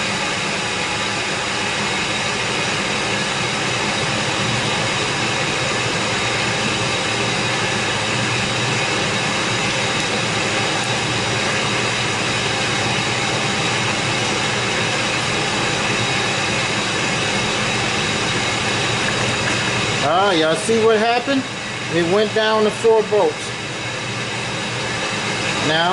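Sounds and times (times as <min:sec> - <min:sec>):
truck engine running: 0:01.4 - 0:25.8.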